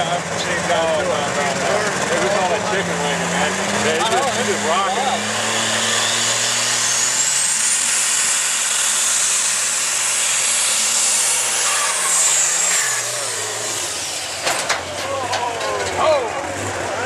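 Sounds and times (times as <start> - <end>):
diesel engine running flat out: 0.0 - 17.0.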